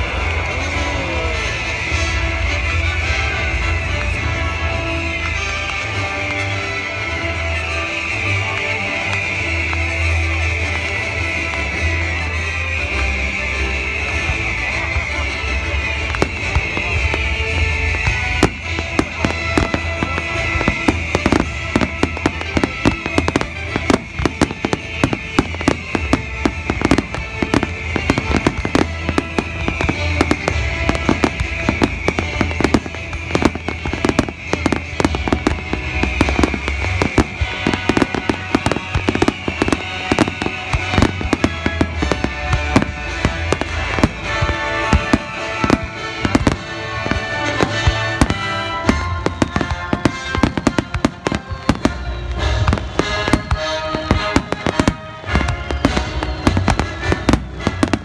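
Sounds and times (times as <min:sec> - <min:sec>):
fireworks bangs and crackles: 0:00.0 - 0:58.0
music playing: 0:00.0 - 0:58.0.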